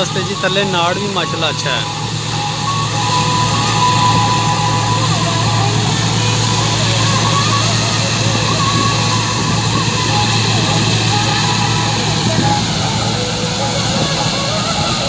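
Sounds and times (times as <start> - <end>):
thin steady whine: 0.0 - 15.0
tractor diesel engine running: 0.0 - 15.0.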